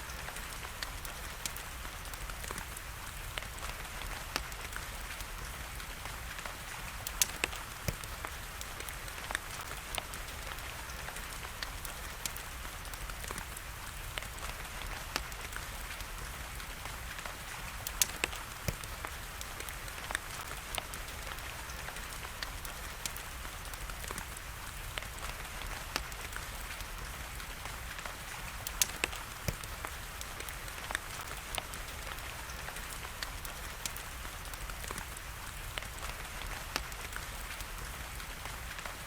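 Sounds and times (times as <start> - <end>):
rain hiss: 0.0 - 39.0
wood fire crackling: 0.0 - 39.0.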